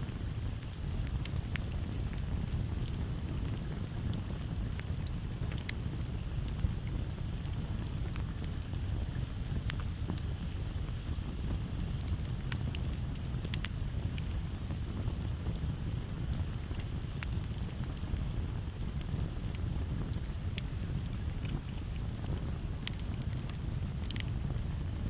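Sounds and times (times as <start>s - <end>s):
campfire crackling and popping: 0.0s - 25.0s
low breeze rumble: 0.0s - 25.0s
cricket trill: 0.1s - 25.0s.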